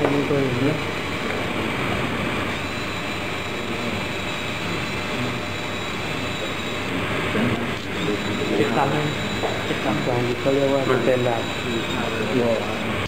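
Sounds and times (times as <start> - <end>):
electric motor whirring with high whine: 0.0 - 13.0.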